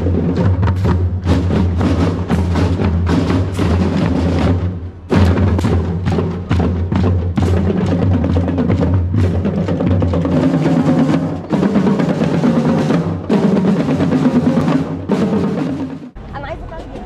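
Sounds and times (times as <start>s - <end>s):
bass and snare drums: 0.0s - 16.2s
marching band playing: 0.0s - 17.0s.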